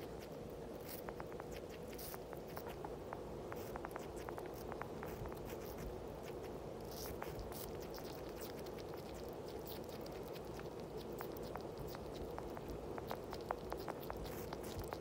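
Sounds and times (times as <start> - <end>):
background noise: 0.0 - 15.0
wet chewing clicks and smacks: 0.0 - 15.0.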